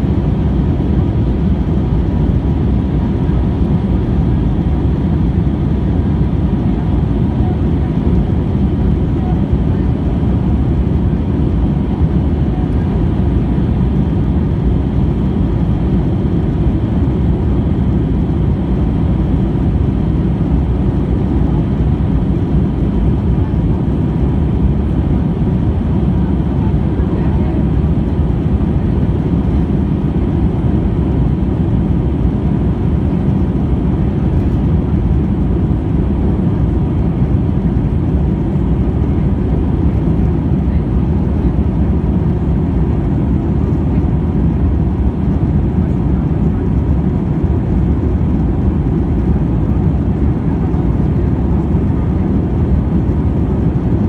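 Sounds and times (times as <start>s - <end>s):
jet engine cabin roar: 0.0s - 54.0s.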